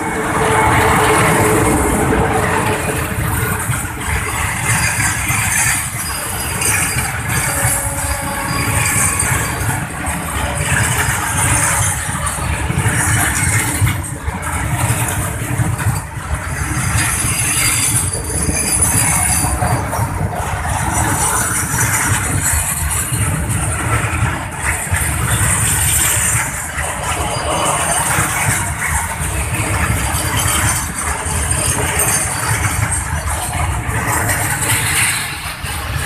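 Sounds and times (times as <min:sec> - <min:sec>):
freight train rolling past: 0:00.0 - 0:36.0
steel wheels rumbling on rails: 0:00.0 - 0:36.0.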